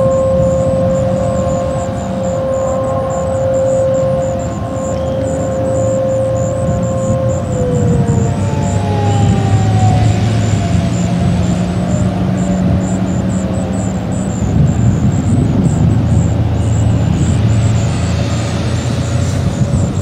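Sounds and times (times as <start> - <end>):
vehicle engine and road noise: 0.0 - 20.0
warning siren winding down: 0.0 - 20.0.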